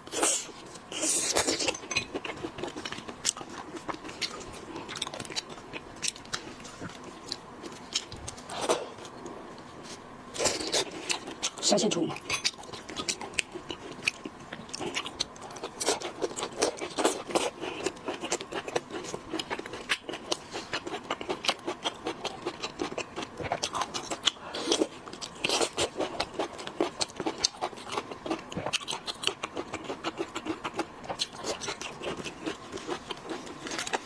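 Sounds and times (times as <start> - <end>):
chewing: 0.1 - 34.0.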